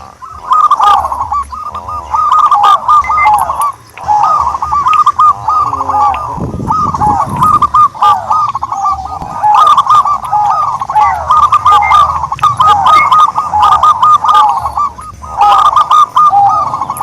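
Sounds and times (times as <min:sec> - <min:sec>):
turtledoves calling: 0:00.0 - 0:17.0.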